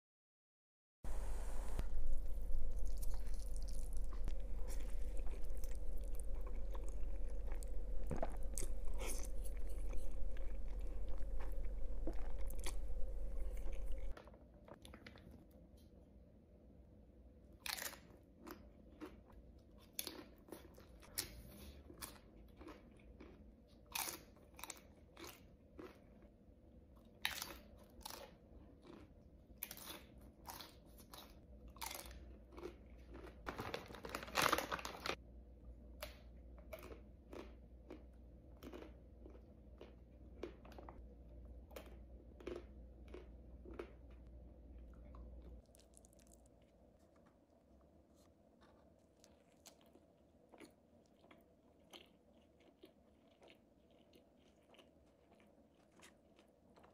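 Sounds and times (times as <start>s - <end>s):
crunchy chewing: 1.8s - 15.4s, 17.6s - 26.4s, 27.0s - 35.2s, 36.0s - 56.9s.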